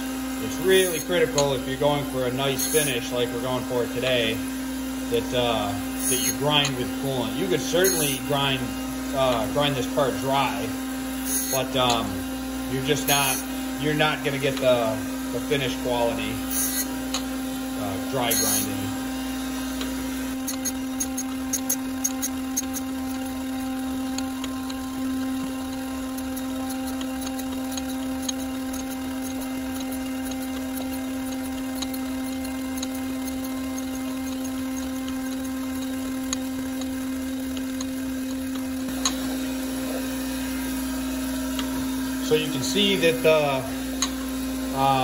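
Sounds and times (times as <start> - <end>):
grinder motor hum: 0.0 - 45.0.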